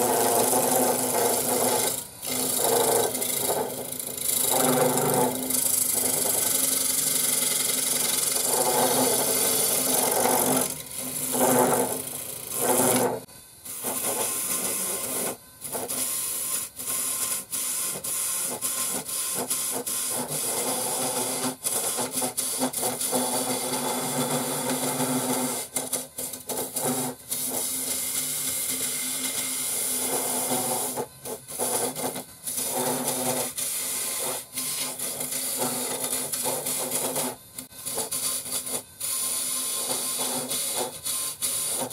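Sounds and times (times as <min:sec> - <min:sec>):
turning tool rasping wood: 0:00.0 - 0:41.9
wood lathe humming: 0:00.0 - 0:41.9.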